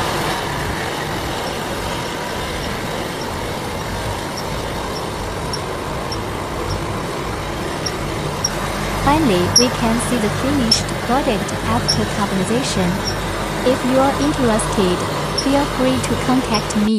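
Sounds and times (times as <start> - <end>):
faint regular ticking: 0.0 - 16.9
machinery running: 0.0 - 16.9.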